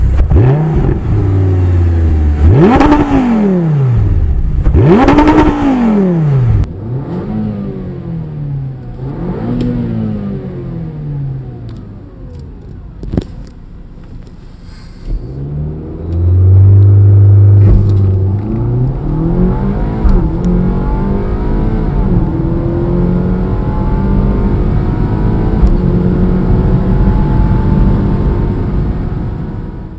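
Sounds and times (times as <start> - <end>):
car engine revving and accelerating: 0.0 - 13.2, 15.0 - 29.9.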